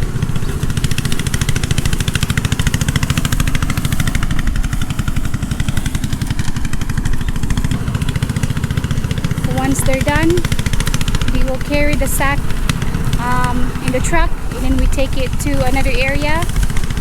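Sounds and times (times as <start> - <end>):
small engine chugging: 0.0 - 17.0.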